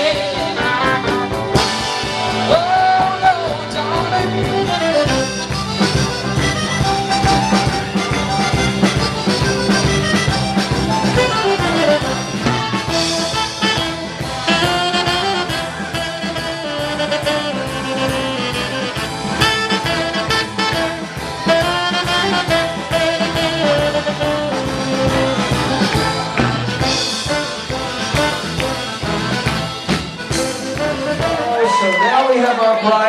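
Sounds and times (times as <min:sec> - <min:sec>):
live band playing up-tempo song: 0:00.0 - 0:33.0.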